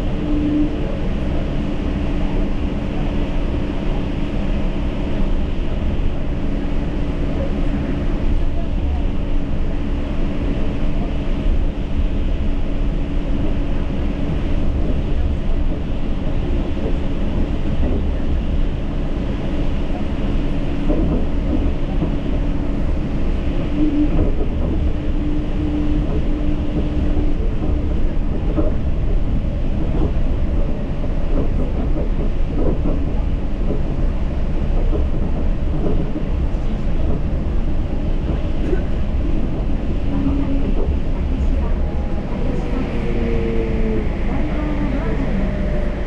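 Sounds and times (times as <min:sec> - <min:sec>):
train tyres rumbling: 0:00.0 - 0:46.0.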